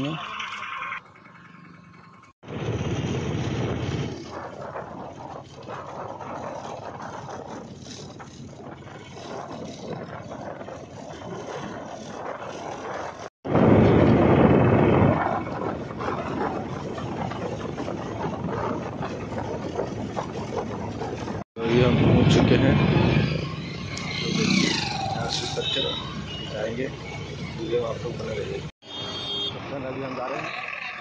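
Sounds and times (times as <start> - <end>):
road noise rumbling: 0.0 - 31.0
wind buffeting microphone: 2.4 - 28.6.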